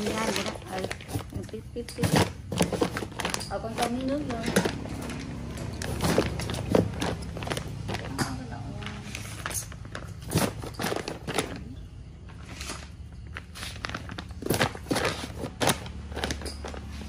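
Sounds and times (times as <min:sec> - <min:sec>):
plastic bags crinkling: 0:00.0 - 0:17.0
sharp plastic crackles: 0:00.0 - 0:17.0.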